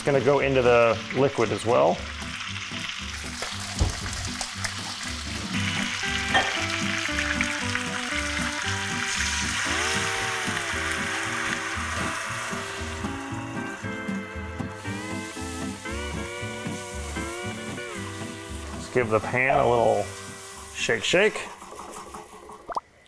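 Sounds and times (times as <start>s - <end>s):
liquid sizzling in hot pan: 0.0s - 22.8s
background music with bass line: 2.0s - 20.8s.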